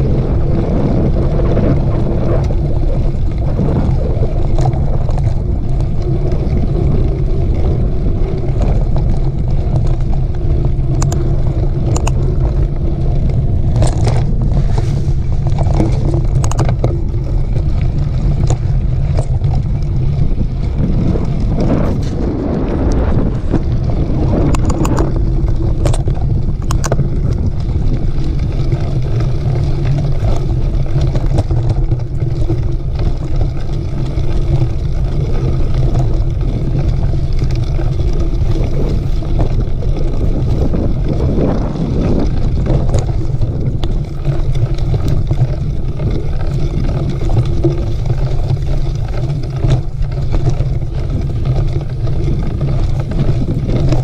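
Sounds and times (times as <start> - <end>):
bike clicks and rattles: 0.0 - 54.0
bike tyres rolling: 0.0 - 54.0
wind rumble on microphone: 0.0 - 54.0.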